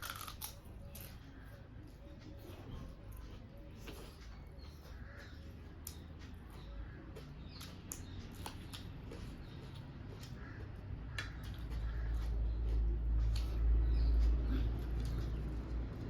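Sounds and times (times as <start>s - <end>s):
chewing clicks and smacks: 0.0s - 16.0s.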